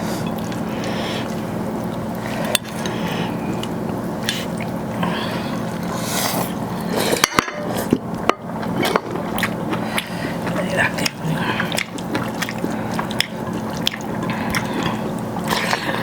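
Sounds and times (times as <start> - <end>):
chewing and mouth noises: 0.0 - 7.2, 7.8 - 16.0.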